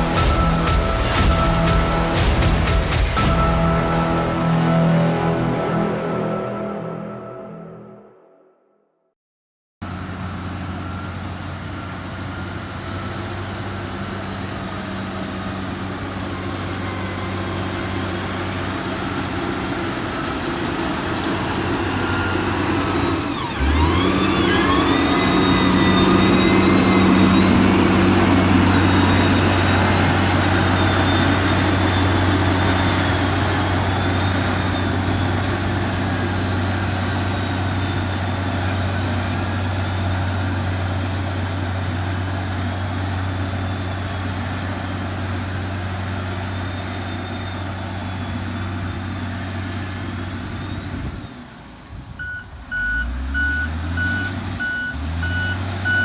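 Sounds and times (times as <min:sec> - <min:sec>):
diesel engine running: 0:00.0 - 0:06.7, 0:09.8 - 0:56.0.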